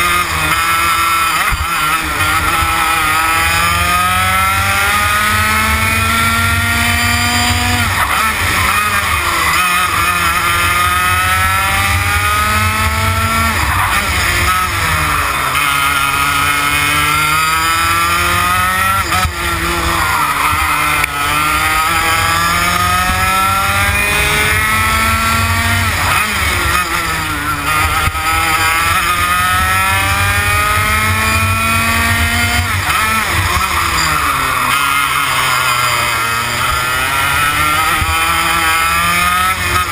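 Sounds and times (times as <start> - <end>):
kart engine at full throttle: 0.0 - 39.9.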